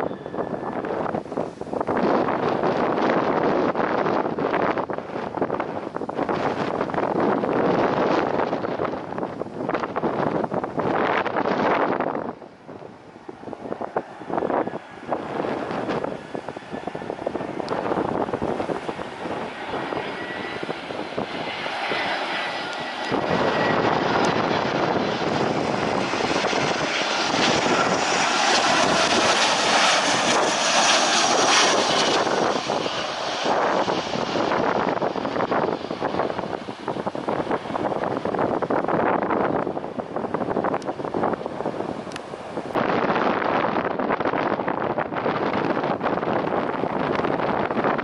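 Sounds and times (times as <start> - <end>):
airplane engines rushing with whine: 0.0 - 48.0
wind gusts on microphone: 0.0 - 48.0.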